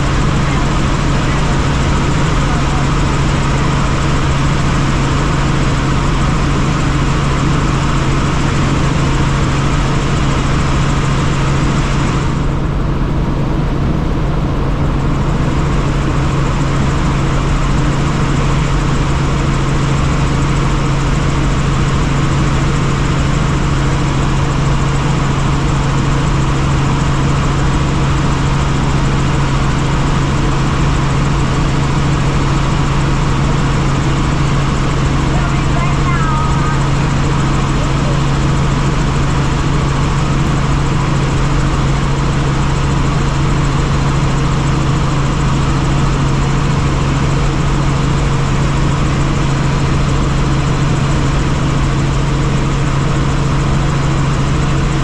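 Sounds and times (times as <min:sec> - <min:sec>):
helicopter drone on board: 0:00.0 - 0:55.0.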